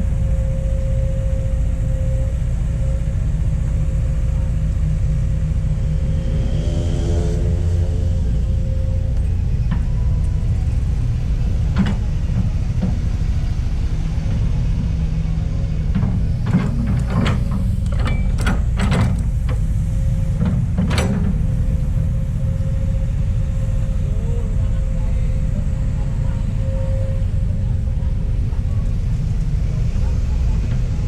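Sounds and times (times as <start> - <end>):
excavator engine rumble: 0.0 - 31.0.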